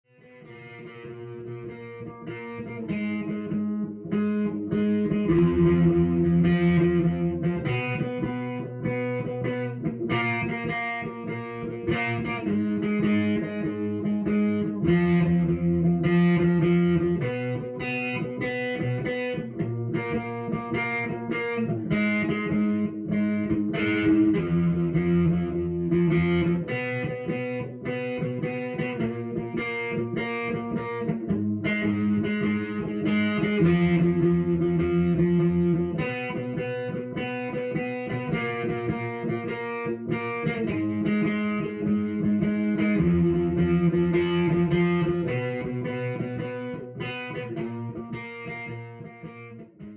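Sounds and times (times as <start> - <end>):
instrumental music with chords: 0.1 - 49.9.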